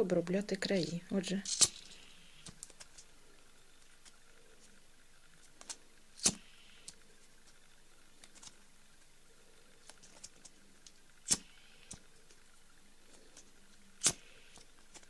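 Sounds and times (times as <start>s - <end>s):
faint handling ticks: 0.6s - 15.0s.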